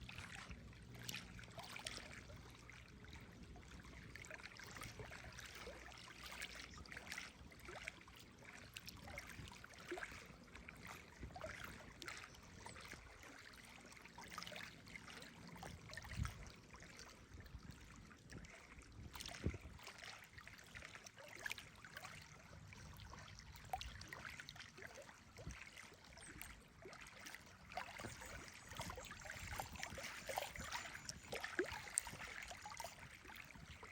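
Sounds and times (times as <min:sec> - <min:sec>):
small waves lapping: 0:00.0 - 0:33.9.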